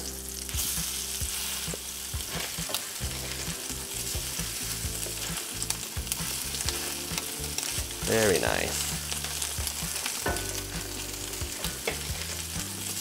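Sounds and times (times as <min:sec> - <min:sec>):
crab cakes sizzling in oil: 0:00.0 - 0:13.0.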